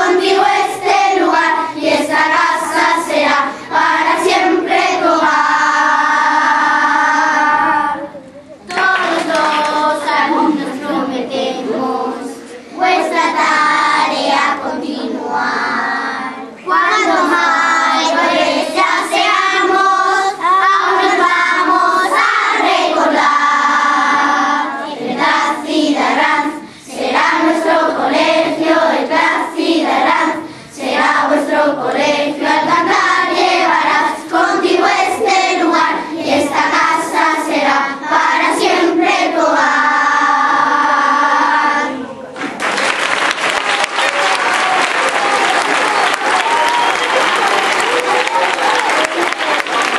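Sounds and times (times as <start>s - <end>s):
children's choir singing: 0.0s - 42.6s, 44.2s - 49.9s.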